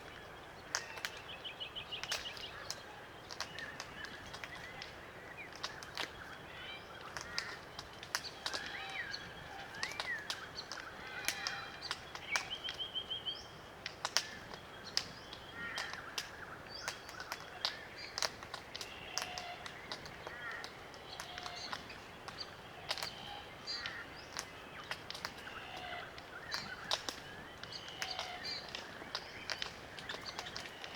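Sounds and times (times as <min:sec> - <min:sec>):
soft creaking bird calls: 0:00.0 - 0:30.9
cones cracking with sharp clicks: 0:02.0 - 0:06.3, 0:07.0 - 0:12.8, 0:13.8 - 0:30.9.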